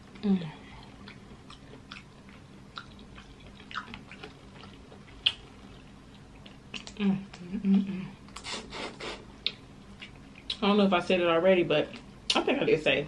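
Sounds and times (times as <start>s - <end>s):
mouth noises of eating: 0.1s - 10.6s.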